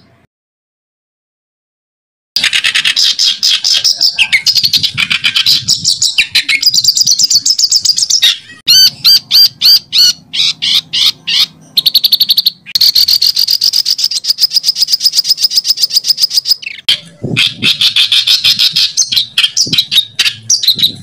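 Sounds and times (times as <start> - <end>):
songbird trilling: 2.4 - 21.0.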